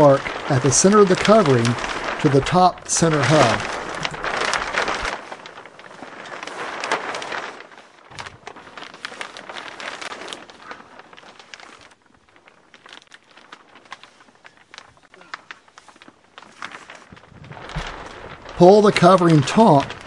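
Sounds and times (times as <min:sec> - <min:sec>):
plastic sheeting rustling: 0:00.0 - 0:20.0.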